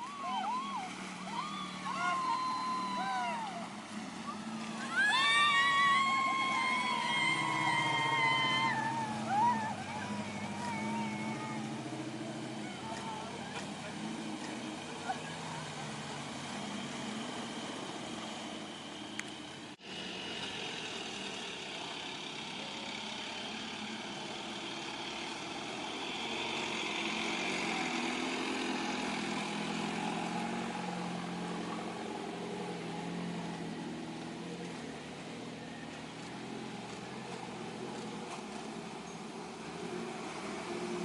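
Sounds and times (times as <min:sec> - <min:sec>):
off-road vehicle engine running: 0:00.0 - 0:41.0.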